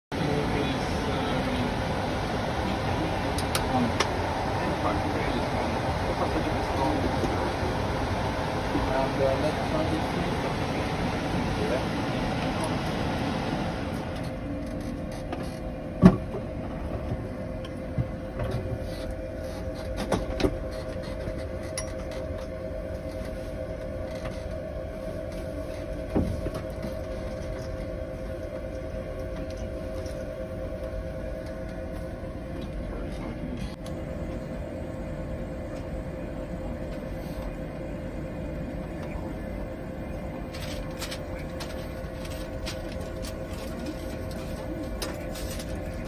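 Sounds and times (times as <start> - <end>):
aircraft low rumble and hiss: 0.1 - 46.0
cockpit hum with constant tone: 0.1 - 46.0.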